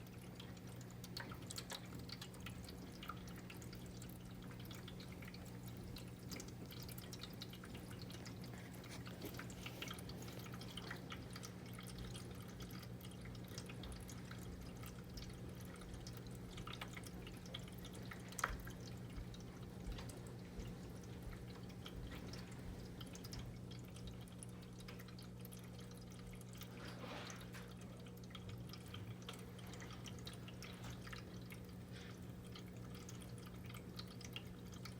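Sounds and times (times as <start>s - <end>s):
low steady hum: 0.0s - 34.9s
small taps and splashes: 0.0s - 34.9s
water fountain trickling: 0.0s - 34.9s.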